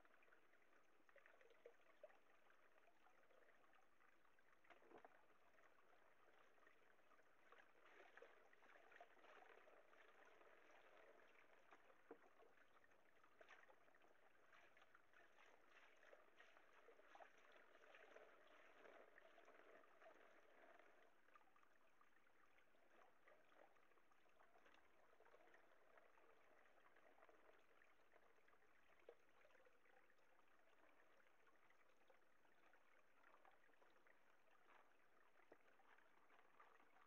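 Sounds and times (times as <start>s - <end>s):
water swishing in a pan: 0.0s - 37.0s.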